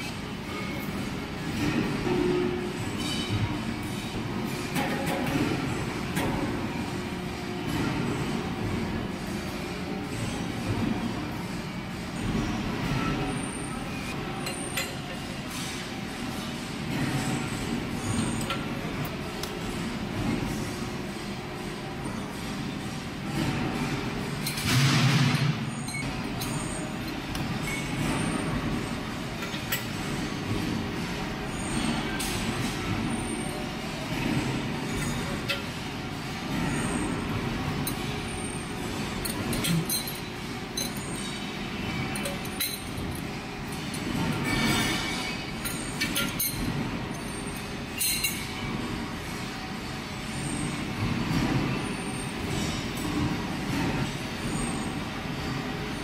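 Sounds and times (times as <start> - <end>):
workshop machinery rumble: 0.0 - 56.0.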